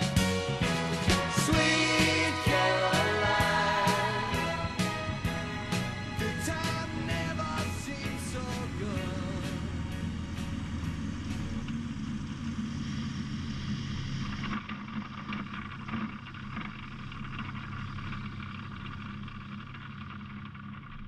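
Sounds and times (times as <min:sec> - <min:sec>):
light aircraft engine and propeller: 0:00.0 - 0:21.0
wheels rolling on runway: 0:00.0 - 0:21.0.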